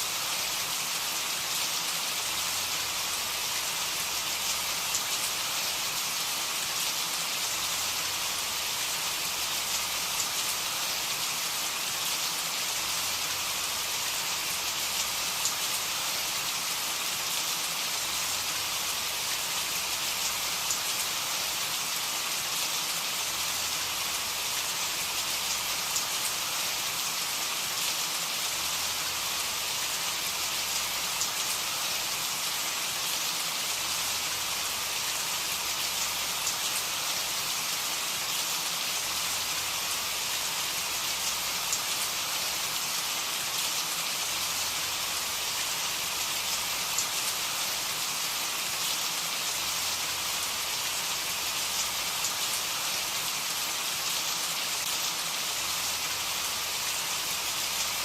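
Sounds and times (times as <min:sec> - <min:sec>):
rain pattering: 0:00.8 - 0:58.0.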